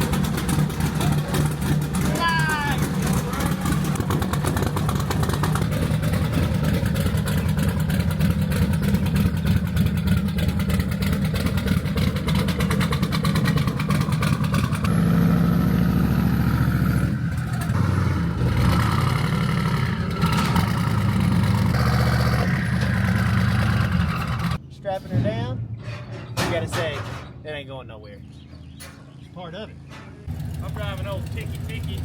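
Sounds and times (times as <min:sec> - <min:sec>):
pickup truck engine running: 0:00.0 - 0:24.6, 0:30.2 - 0:32.0.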